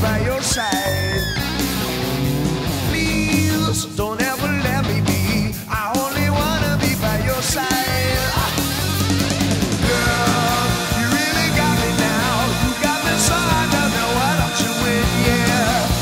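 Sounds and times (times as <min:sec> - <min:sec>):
rock music with guitar and singing: 0:00.0 - 0:16.0.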